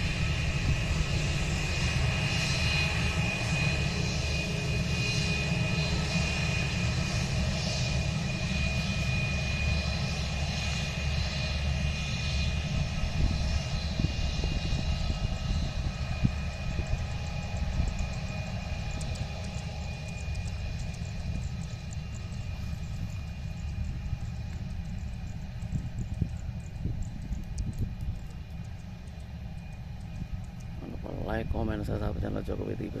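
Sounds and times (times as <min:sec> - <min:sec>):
jet engines whining and rumbling: 0:00.0 - 0:33.0.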